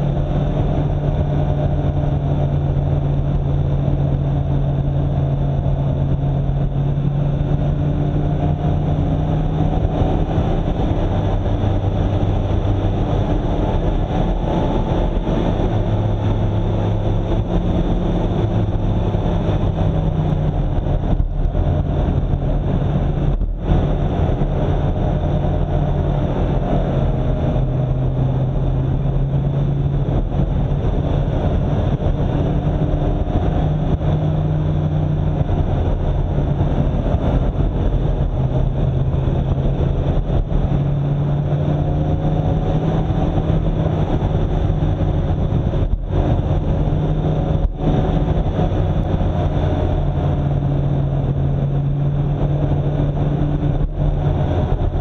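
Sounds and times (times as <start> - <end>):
vehicle engine changing gears: 0.0 - 55.0.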